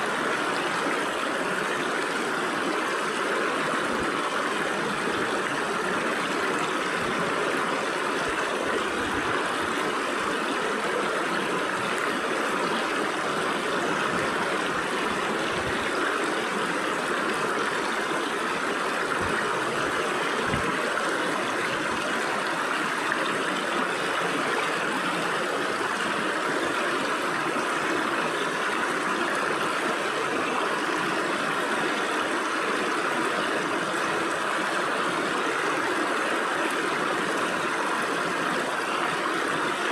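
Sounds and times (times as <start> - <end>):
low water gurgles: 0.0 - 39.9
stream babbling over rocks: 0.0 - 39.9.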